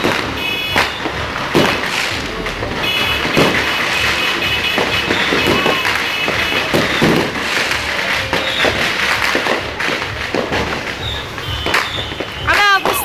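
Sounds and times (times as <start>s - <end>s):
crackling hiss: 0.0s - 13.0s
fireworks bangs and thuds: 0.0s - 13.0s.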